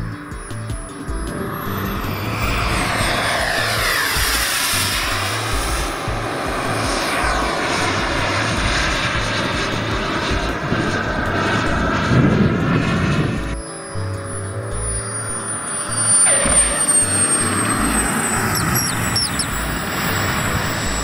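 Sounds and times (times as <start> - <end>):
background music: 0.0 - 21.0
model jet turbine whining roar: 0.0 - 21.0.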